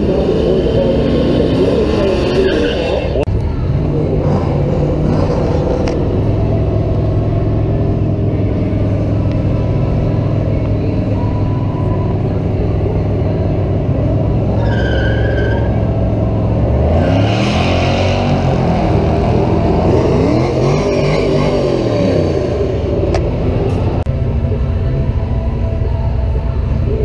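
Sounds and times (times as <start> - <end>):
drag car engines: 0.0 - 27.0.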